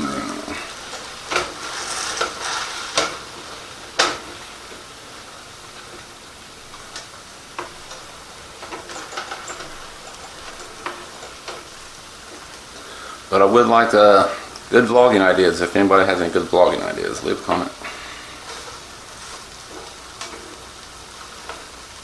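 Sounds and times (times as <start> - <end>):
burgers sizzling in a frying pan: 0.0 - 22.0.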